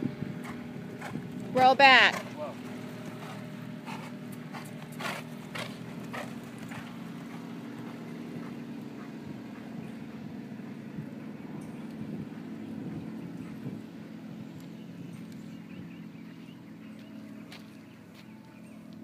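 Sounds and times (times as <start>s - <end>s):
horse hoofbeats on dirt: 0.0s - 19.0s
steady low hum: 0.0s - 19.0s.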